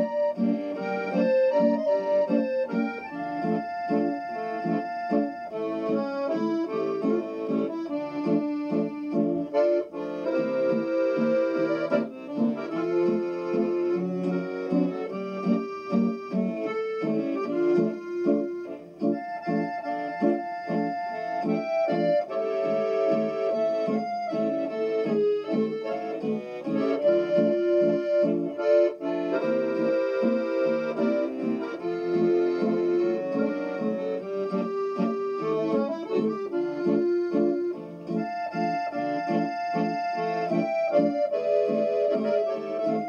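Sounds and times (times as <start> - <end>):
accordion playing a melody: 0.0 - 43.0.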